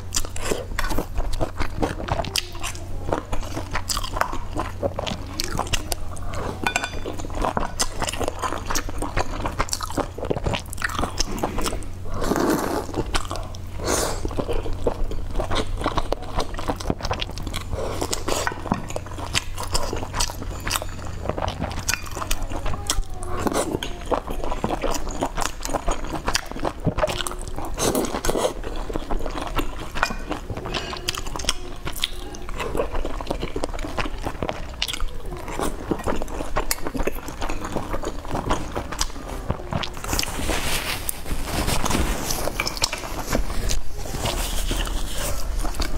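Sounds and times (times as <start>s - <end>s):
person chewing wetly: 0.0s - 45.9s
steady low hum: 0.0s - 45.9s.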